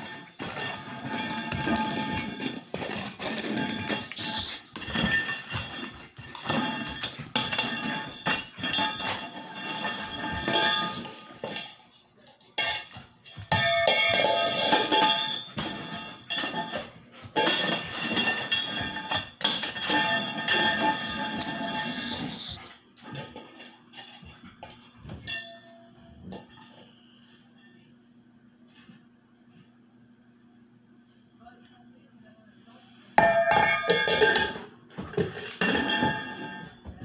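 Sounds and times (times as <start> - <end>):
metal bowl clanging on wooden floor: 0.0 - 11.8, 12.4 - 26.8, 33.2 - 37.0.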